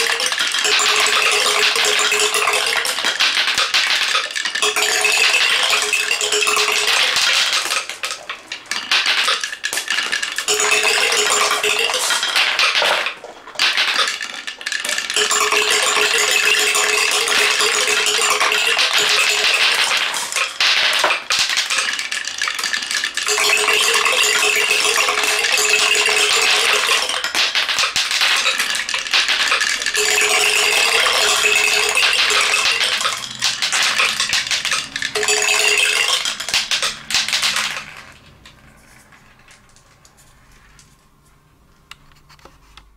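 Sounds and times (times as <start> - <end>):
marbles rattling down a wooden run: 0.0 - 40.9.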